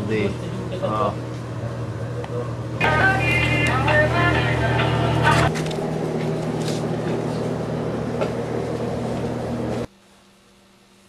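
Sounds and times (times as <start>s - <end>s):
motor drone: 0.0s - 9.9s
faint hum: 0.0s - 11.0s.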